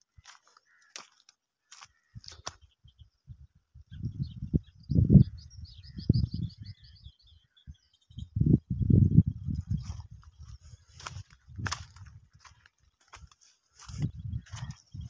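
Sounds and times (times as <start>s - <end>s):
wind buffeting microphone: 2.1s - 15.0s.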